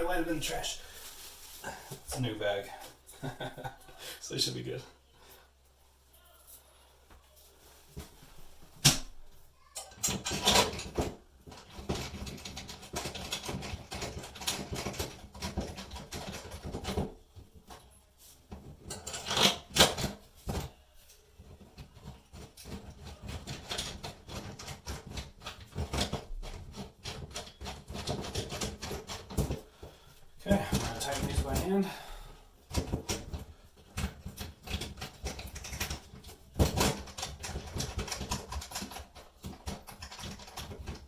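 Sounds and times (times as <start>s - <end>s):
hardware handling clicks and rustles: 7.6s - 41.0s.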